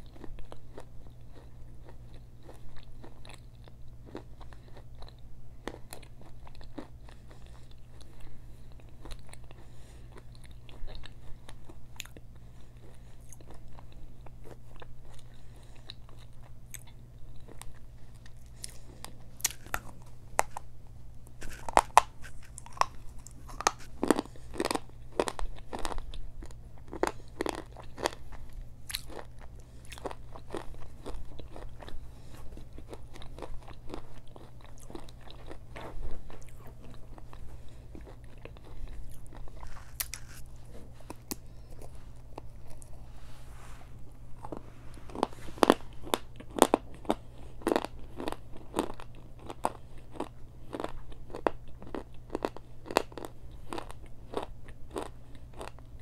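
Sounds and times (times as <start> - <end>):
biting and crunching clay treats: 0.0 - 20.7, 21.3 - 43.0, 44.4 - 56.0.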